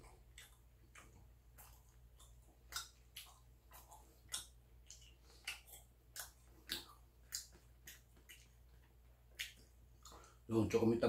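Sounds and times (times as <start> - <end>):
person chewing food: 0.0 - 10.5.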